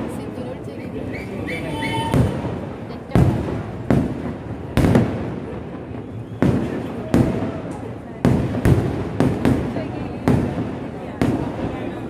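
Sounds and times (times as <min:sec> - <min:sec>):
firework shells exploding: 0:01.3 - 0:12.0.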